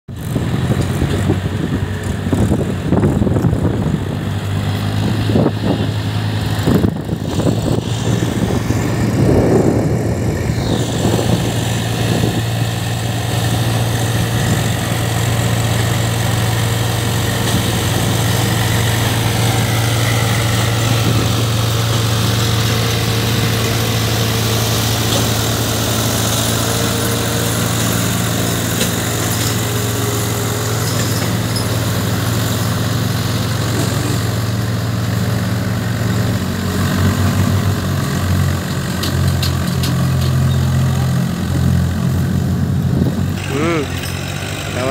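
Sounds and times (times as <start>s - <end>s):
tractor diesel engine: 0.1s - 44.9s.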